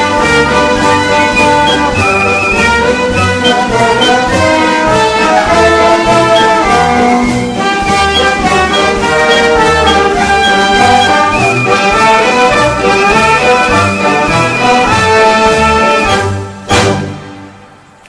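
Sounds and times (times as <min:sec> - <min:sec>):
brass instruments playing melody: 0:00.0 - 0:17.6.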